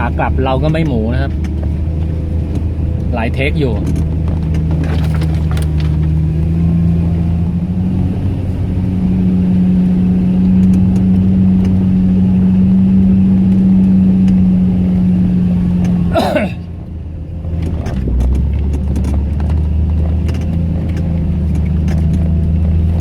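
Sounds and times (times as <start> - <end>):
off-road engine revving under load: 0.0 - 23.0.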